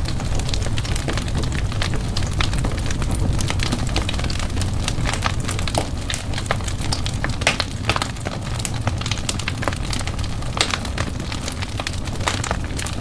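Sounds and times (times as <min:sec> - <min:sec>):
low rumble of flames: 0:00.0 - 0:13.0
sharp pops of fire: 0:00.0 - 0:13.0
wood fire crackling: 0:00.0 - 0:13.0.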